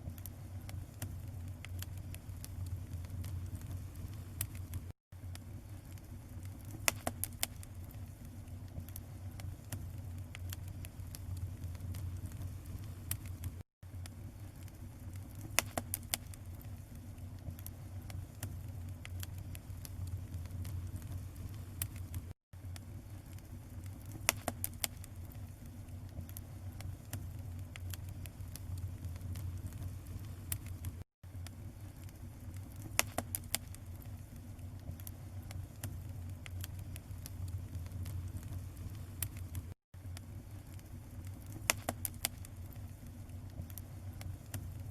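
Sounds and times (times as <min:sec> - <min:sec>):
fire crackling and popping: 0:00.0 - 0:44.9.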